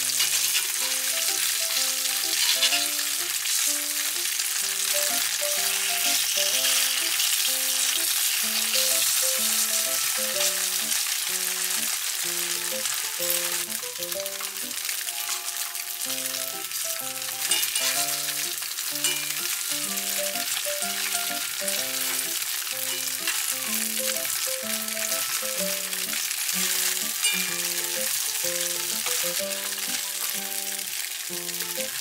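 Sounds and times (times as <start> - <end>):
light background music: 0.0 - 32.0
tofu sizzling in hot oil: 0.0 - 32.0.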